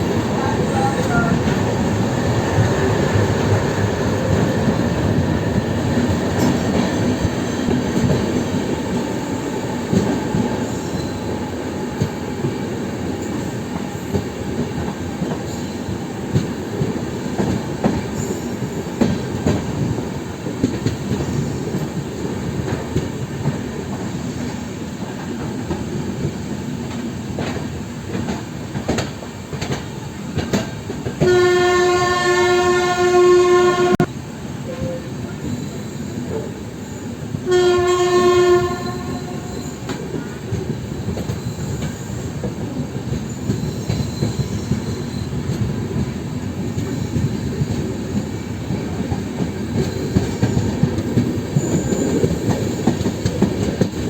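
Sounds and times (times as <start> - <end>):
rumble of wheels on rail: 0.0 - 54.0.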